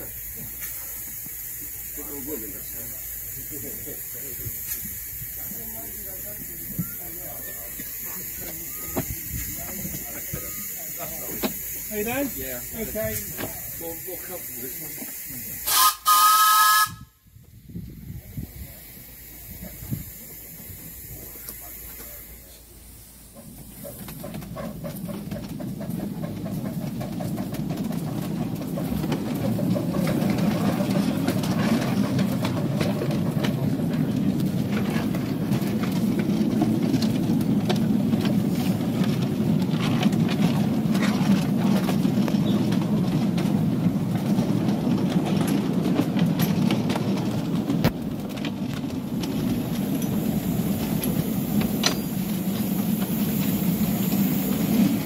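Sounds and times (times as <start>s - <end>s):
miniature train wheels rumbling: 0.0s - 55.0s
train wheels clicking: 0.0s - 55.0s.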